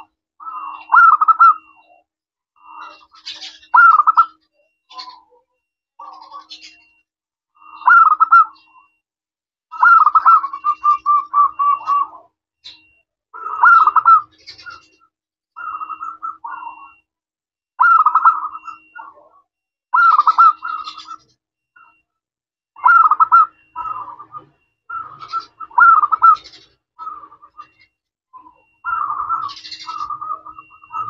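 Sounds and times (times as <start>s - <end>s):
dove trilling coos: 0.0s - 7.0s, 7.6s - 9.0s, 9.7s - 17.1s, 17.8s - 22.0s, 22.8s - 31.0s.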